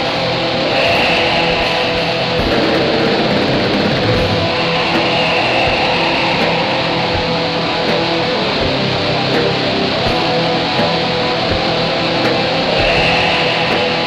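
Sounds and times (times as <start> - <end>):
distorted electric guitar metal: 0.0 - 14.0.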